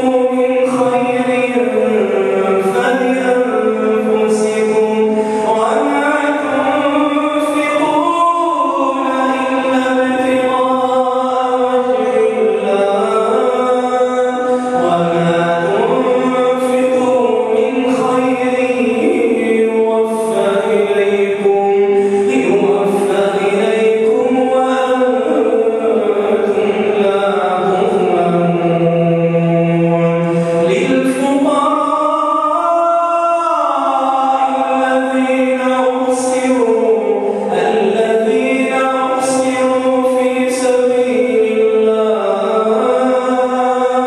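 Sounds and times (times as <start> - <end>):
man chanting melodic recitation: 0.0 - 44.0.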